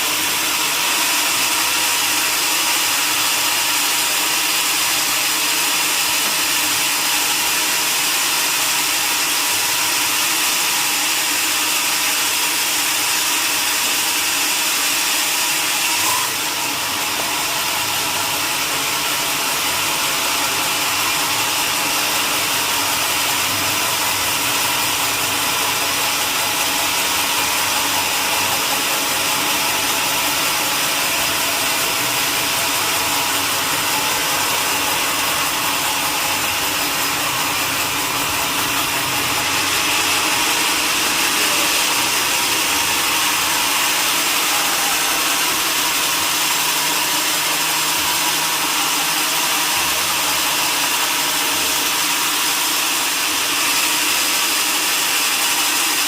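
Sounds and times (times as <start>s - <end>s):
saw cutting through log: 0.0s - 56.0s.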